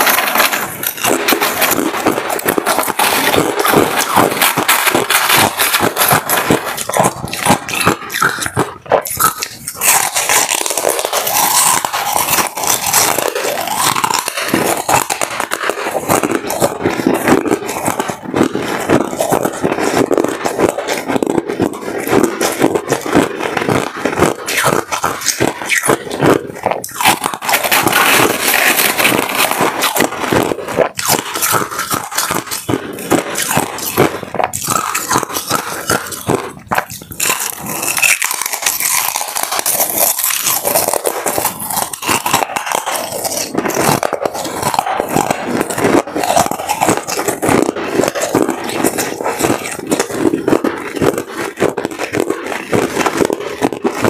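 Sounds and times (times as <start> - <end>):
fingers digging through crushed ice: 0.0 - 54.0
ice being bitten and chewed: 0.0 - 54.0.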